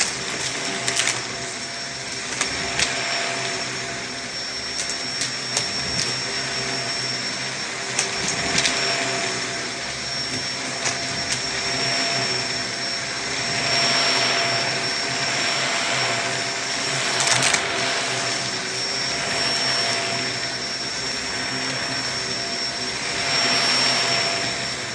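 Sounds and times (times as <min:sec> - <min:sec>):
vacuum cleaner whining: 0:00.0 - 0:24.9.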